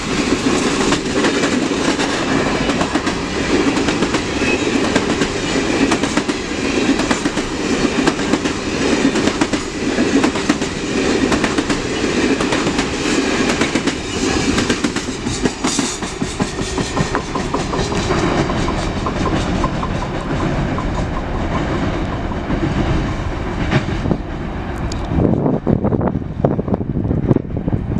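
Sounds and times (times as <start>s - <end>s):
train wheels clicking over rail joints: 0.0s - 25.2s.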